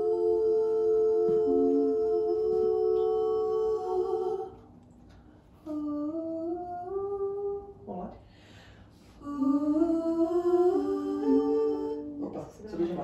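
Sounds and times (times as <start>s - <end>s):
group humming in harmony: 0.0s - 4.8s, 5.5s - 7.9s, 8.5s - 13.0s.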